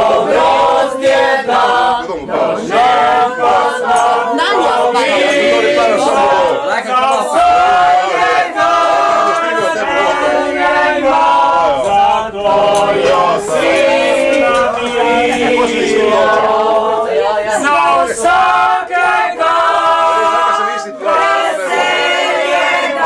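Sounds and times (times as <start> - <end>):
group singing folk song: 0.0 - 23.0.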